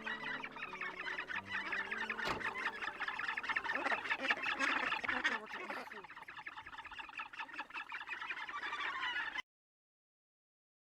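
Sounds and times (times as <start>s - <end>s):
seabird colony chattering calls: 0.0s - 9.4s.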